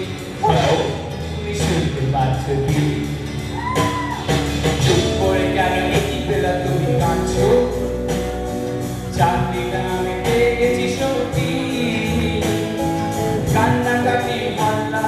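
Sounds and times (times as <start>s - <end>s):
person singing: 0.0s - 8.1s, 9.1s - 15.0s
live rock band: 0.0s - 15.0s.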